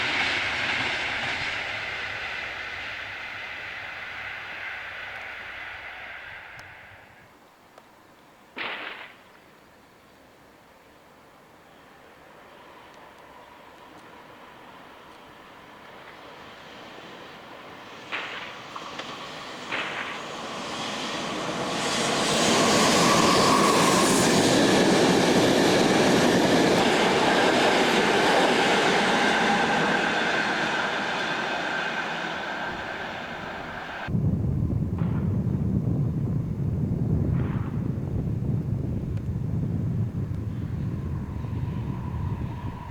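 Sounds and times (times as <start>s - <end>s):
train passing: 0.0s - 7.3s, 11.8s - 42.9s.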